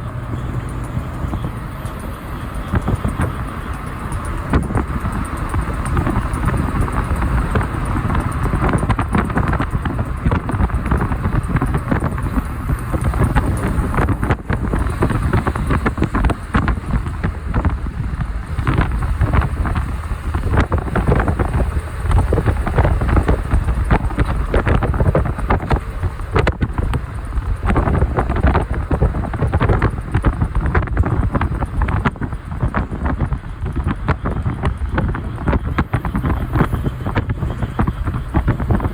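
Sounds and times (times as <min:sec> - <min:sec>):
vehicle road noise rumble: 0:00.0 - 0:38.9
wind buffeting microphone: 0:00.0 - 0:38.9.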